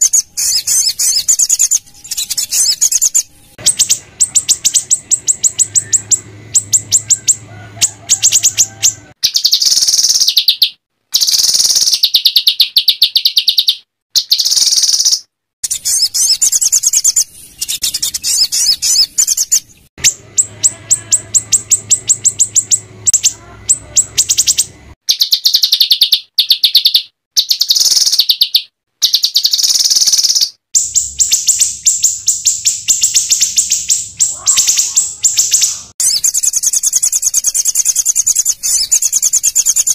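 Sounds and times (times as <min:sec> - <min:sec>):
songbirds chattering trills: 0:00.0 - 0:39.9.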